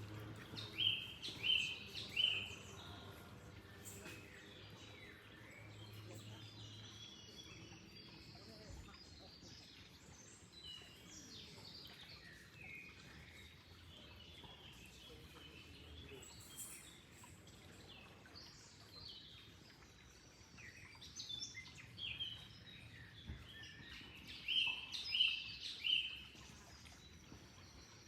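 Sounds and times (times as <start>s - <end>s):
faint background noise: 0.0s - 28.0s
songbirds chirping: 0.0s - 28.0s.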